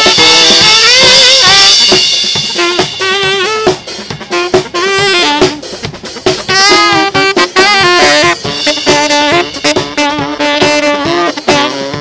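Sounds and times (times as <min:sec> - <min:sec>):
drum kit beat: 0:00.0 - 0:12.0
saxophones playing melody: 0:00.0 - 0:12.0.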